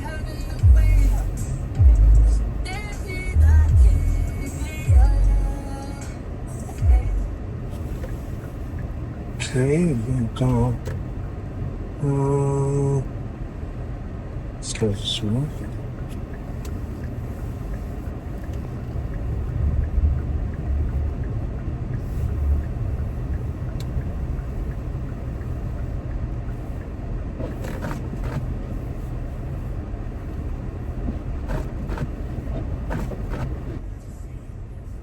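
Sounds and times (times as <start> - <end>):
engine and tyre rumble: 0.0 - 35.0.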